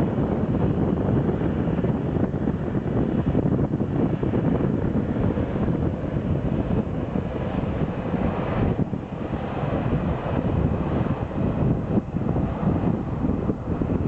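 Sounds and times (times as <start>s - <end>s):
aircraft engines rumbling: 0.0s - 14.0s
wind buffeting microphone: 0.0s - 14.0s.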